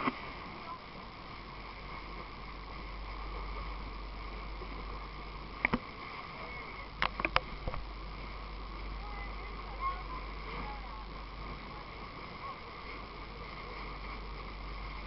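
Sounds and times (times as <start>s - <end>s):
boat on water humming: 0.0s - 15.0s.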